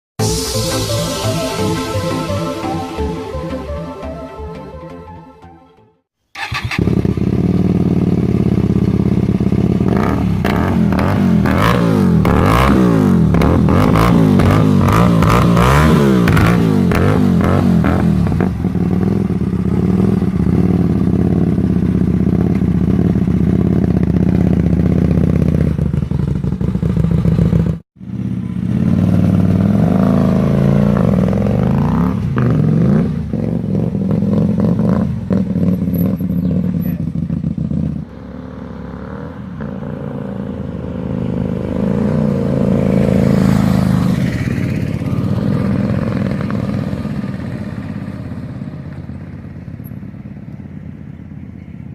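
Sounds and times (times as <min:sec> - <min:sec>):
motorcycle engine revving: 0:06.4 - 0:50.9.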